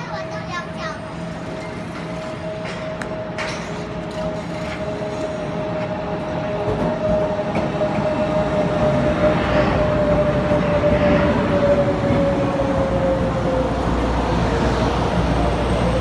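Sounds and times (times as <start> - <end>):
electric train whine: 0.0 - 16.0
train running noise: 0.0 - 16.0.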